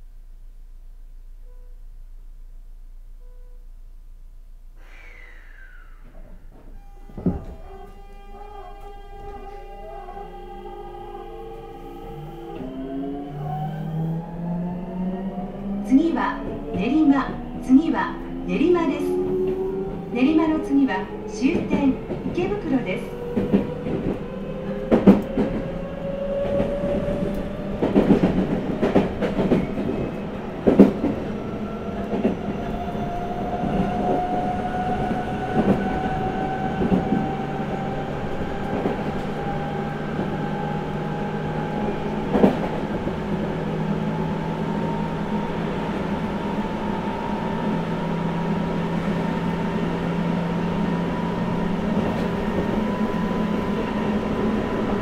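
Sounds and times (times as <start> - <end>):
train running noise: 5.5 - 55.0.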